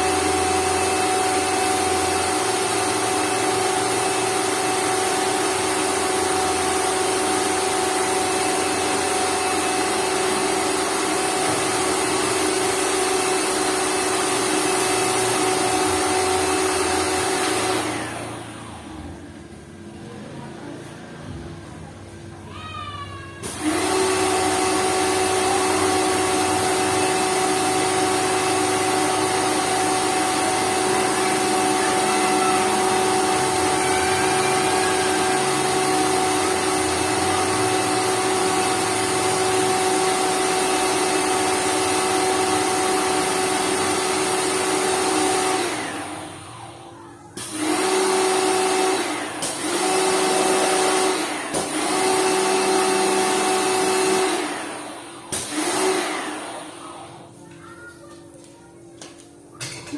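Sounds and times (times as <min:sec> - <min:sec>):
pressure washer motor whining: 0:00.0 - 0:20.1, 0:23.4 - 0:57.4.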